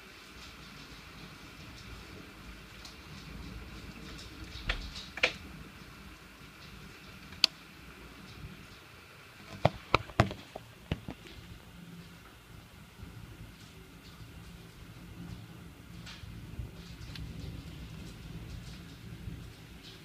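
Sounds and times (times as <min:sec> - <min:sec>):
hailstones ticking on window: 0:00.0 - 0:20.0
heavy hail and rain shower: 0:00.0 - 0:20.0.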